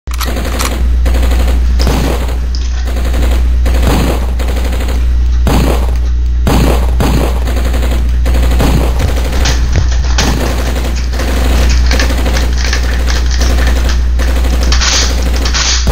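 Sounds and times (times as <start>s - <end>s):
loud low hum: 0.1s - 15.9s
sharp bangs: 0.1s - 15.9s.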